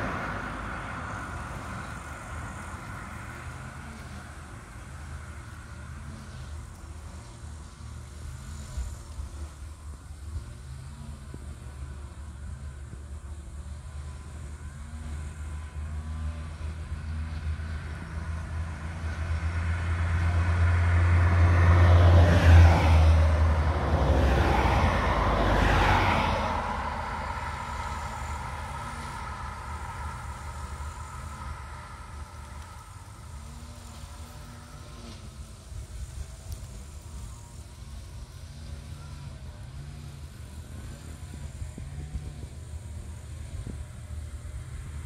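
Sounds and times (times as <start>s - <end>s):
vehicle engine hum: 0.0s - 45.0s.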